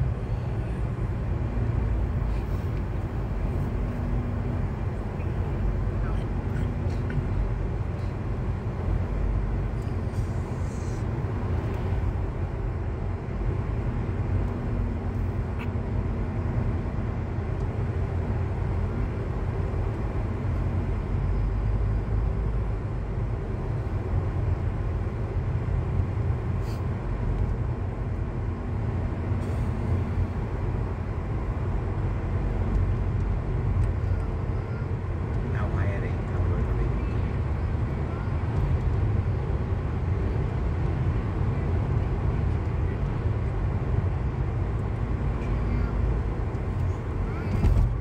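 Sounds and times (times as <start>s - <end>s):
car interior road rumble: 0.0s - 48.0s.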